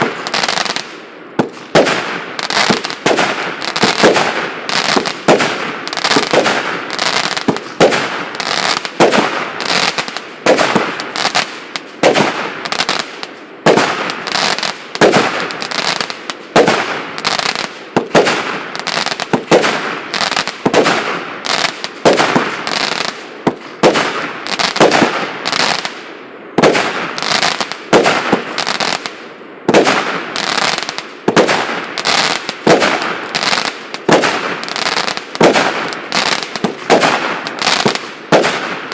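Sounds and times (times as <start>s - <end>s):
firework bangs with crackle: 0.0s - 38.9s.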